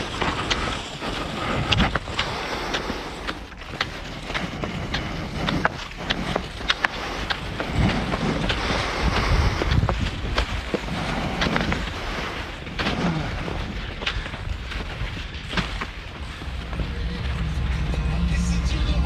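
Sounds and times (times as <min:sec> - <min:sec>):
footsteps crunching snow: 0:00.0 - 0:19.0
wind buffeting microphone: 0:00.0 - 0:19.0.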